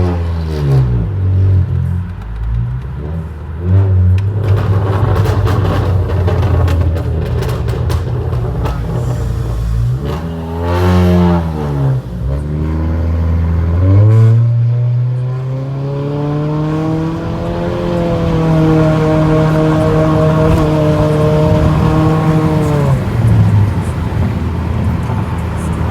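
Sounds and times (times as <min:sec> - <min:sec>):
car exhaust revving: 0:00.0 - 0:25.9.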